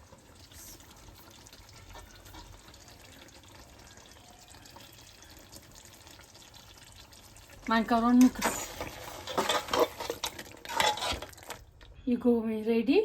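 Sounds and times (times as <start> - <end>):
sauce bubbling in a pot: 0.0 - 11.9.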